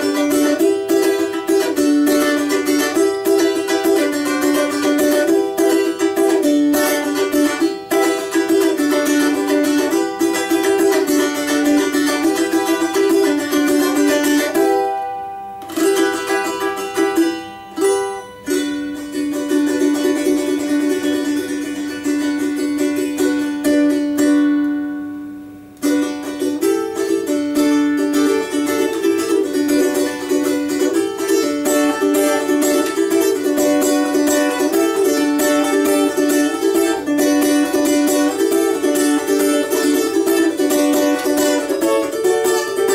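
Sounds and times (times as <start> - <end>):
balalaika strummed: 0.0 - 42.9.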